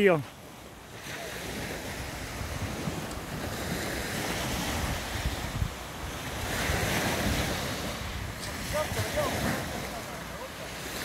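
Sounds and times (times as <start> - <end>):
sea waves breaking on beach: 0.0 - 11.0
wind buffeting microphone: 1.2 - 11.0.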